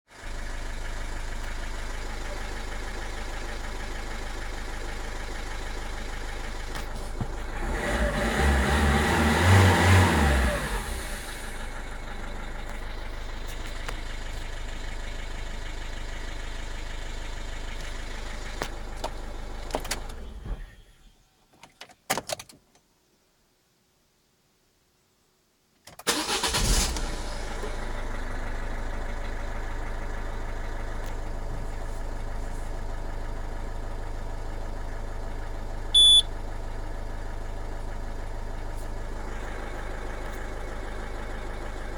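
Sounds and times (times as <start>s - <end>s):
diesel engine idling and revving: 0.0s - 21.0s, 26.1s - 41.9s.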